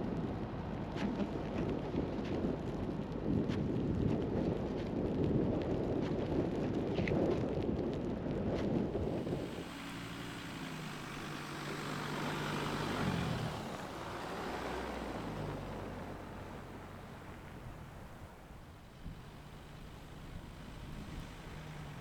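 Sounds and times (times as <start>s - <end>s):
wind buffeting microphone: 3.0s - 22.0s.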